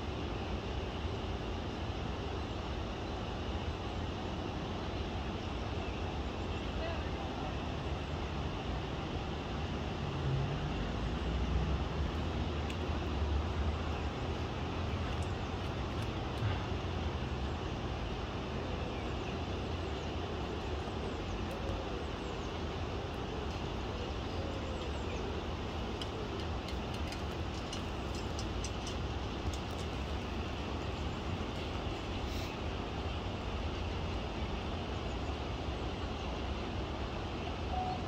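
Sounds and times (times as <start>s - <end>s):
distant road traffic rumble: 6.8s - 38.0s.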